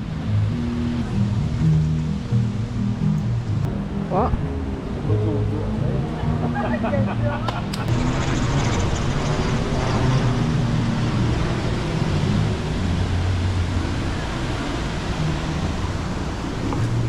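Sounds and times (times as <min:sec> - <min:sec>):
road noise: 0:00.0 - 0:17.0
vehicle engine running: 0:00.0 - 0:17.0.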